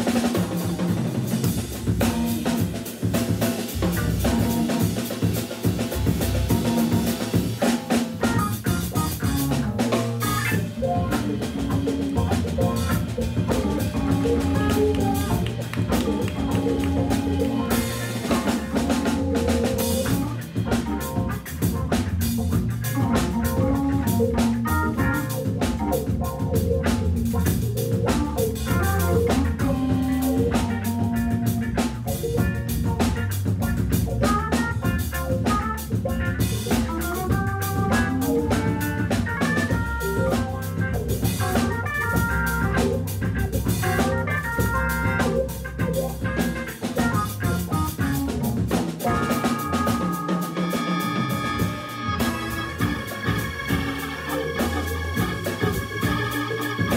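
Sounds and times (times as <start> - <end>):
drum kit: 0.0 - 56.9
electric guitar: 0.0 - 56.9
organ: 0.0 - 56.9.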